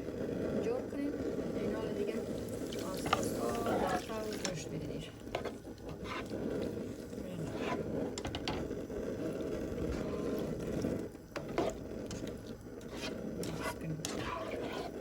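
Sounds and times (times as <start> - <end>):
spatula scraping a pan: 0.1 - 15.0.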